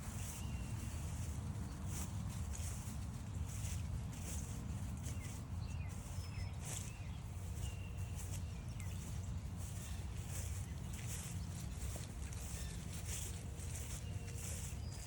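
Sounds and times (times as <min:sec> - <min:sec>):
footsteps crunching on trail: 0:00.0 - 0:15.0.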